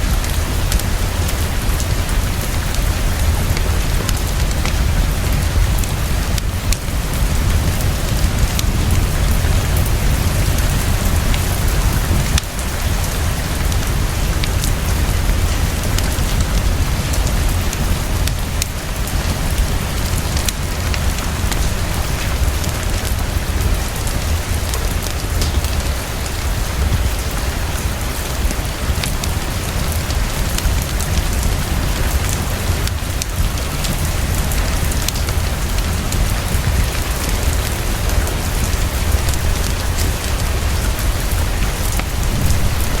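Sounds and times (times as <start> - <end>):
heavy rainfall: 0.0 - 43.0.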